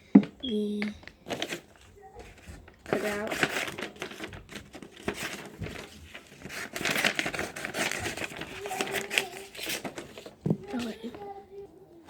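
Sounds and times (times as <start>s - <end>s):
paper crinkling: 0.5s - 12.0s
scissors snipping paper: 0.8s - 11.4s.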